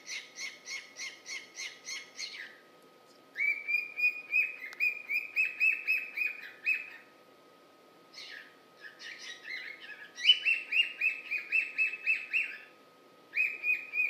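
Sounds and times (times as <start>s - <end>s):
cockatiel chirping: 0.0s - 2.6s, 3.4s - 7.1s, 8.1s - 12.7s, 13.3s - 14.0s.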